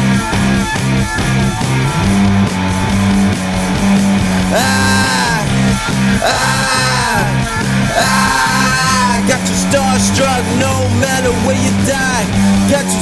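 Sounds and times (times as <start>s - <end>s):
bass and drums: 0.0s - 13.0s
electric guitar: 0.0s - 13.0s.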